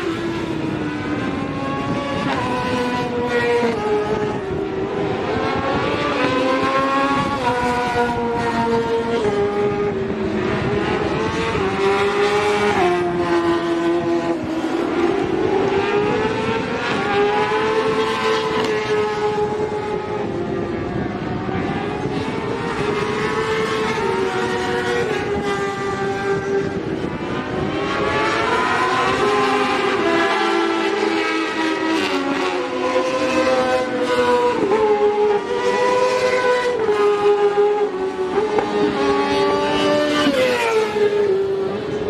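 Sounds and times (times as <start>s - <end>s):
motorcycles racing at high revs: 0.0s - 42.0s.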